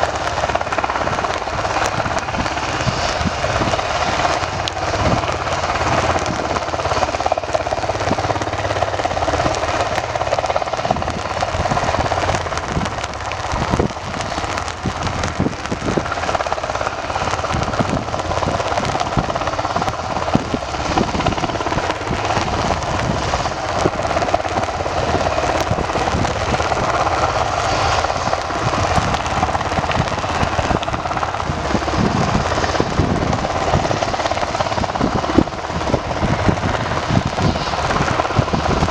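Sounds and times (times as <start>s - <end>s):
helicopter turbine and rotor noise: 0.0s - 38.9s
irregular crackling: 0.0s - 38.9s.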